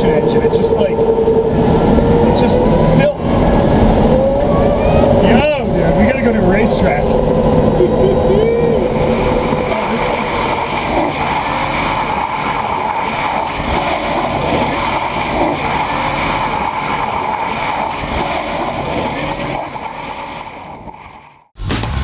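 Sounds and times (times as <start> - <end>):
wind and road noise: 0.0 - 21.2.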